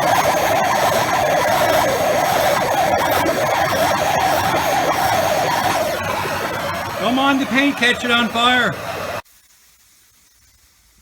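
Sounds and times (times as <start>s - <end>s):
gas torch flame roaring: 0.0s - 9.2s.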